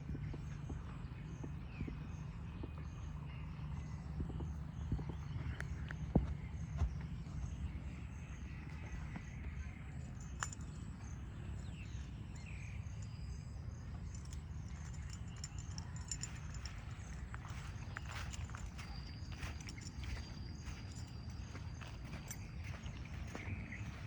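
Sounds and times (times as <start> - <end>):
steady low rumble: 0.0 - 24.0
insects chirping: 4.4 - 24.0.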